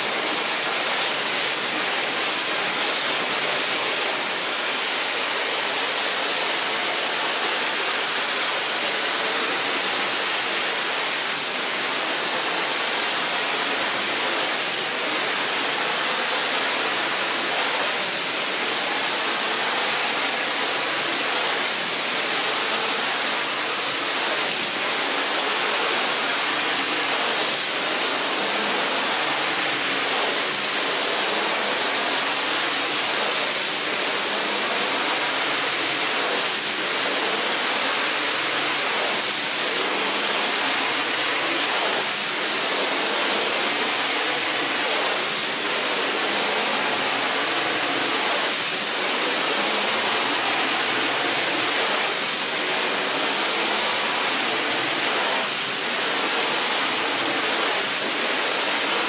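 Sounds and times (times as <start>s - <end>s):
water spraying onto carpet: 10.5s - 59.0s.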